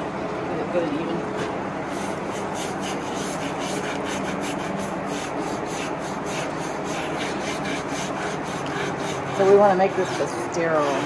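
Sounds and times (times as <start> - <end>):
sponge scrubbing hide: 1.9 - 11.0.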